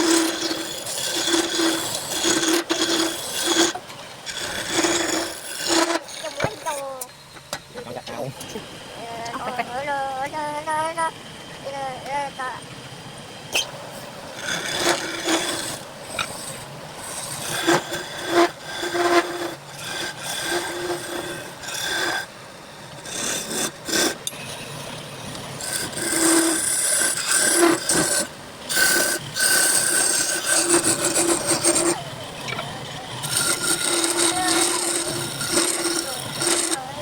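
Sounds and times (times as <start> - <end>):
turning tool scraping wood on lathe: 0.0 - 8.8, 13.6 - 37.0.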